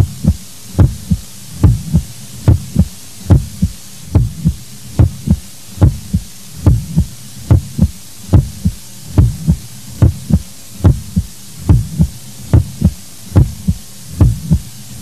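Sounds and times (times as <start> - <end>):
heartbeat double thump: 0.0 - 14.7.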